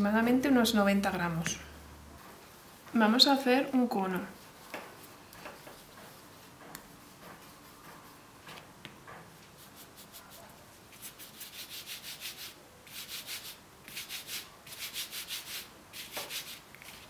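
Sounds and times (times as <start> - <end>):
hands rubbing fondant: 3.0 - 17.0.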